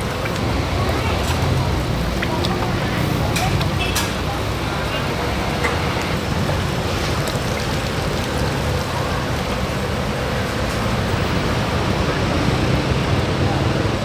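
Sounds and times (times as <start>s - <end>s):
chicken sizzling on a grill: 0.1s - 12.7s.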